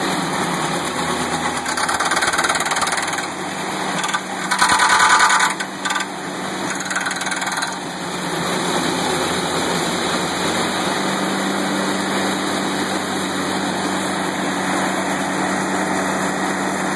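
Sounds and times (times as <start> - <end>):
stump grinder engine running: 0.0 - 16.9.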